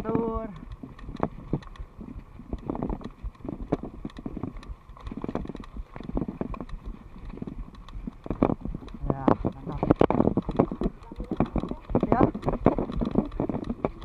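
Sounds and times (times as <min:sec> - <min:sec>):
bike rattling and knocking: 0:00.0 - 0:14.0
tyres rumbling on dirt: 0:00.0 - 0:14.0.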